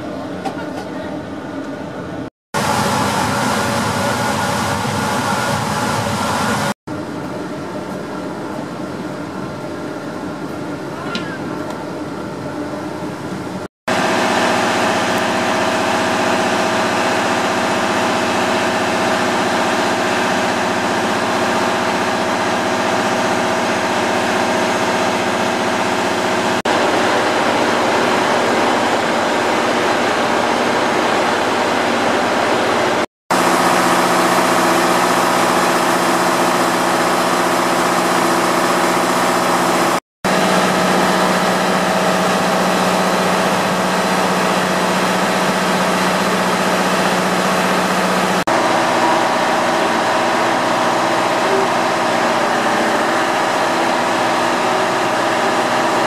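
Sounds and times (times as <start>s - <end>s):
diesel train engine idling: 0.0s - 56.0s.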